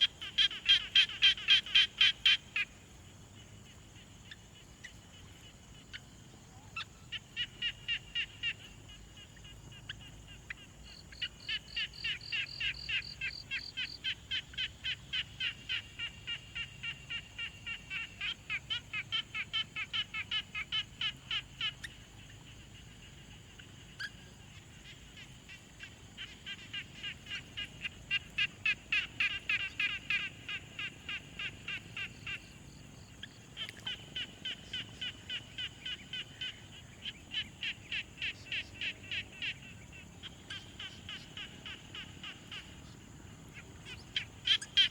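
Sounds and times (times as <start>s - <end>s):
frogs croaking: 0.0s - 44.9s.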